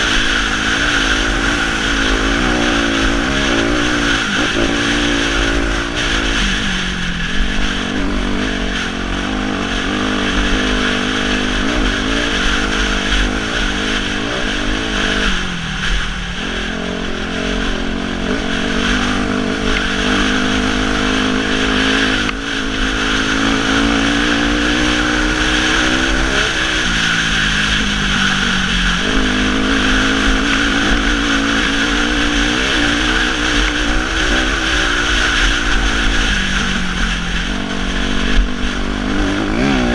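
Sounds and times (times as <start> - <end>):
dirt bike engine pulling hard: 0.0 - 39.9.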